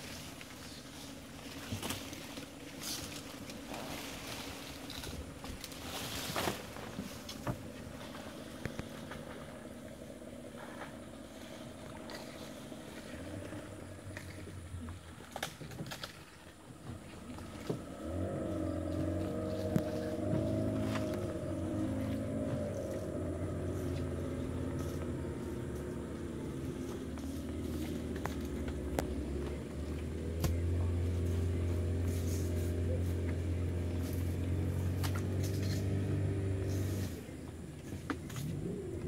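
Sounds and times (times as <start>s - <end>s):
engine running steadily: 0.0s - 39.0s
faint outdoor background: 0.0s - 39.0s.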